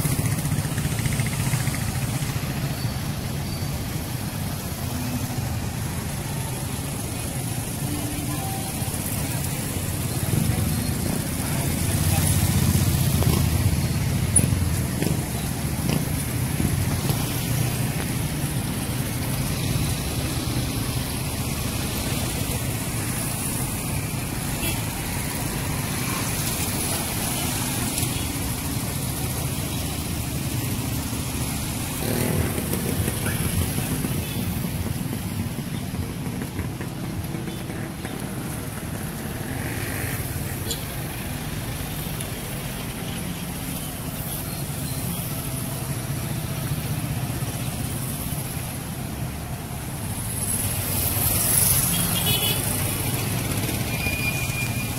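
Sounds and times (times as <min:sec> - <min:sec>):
motorcycles passing: 0:00.0 - 0:54.9
road traffic rumble: 0:00.0 - 0:54.9.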